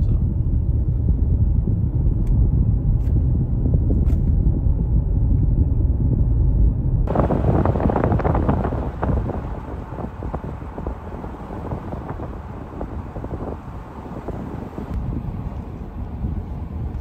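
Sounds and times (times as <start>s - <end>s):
road rumble inside car: 0.0s - 17.0s
wind buffeting microphone: 0.3s - 17.0s.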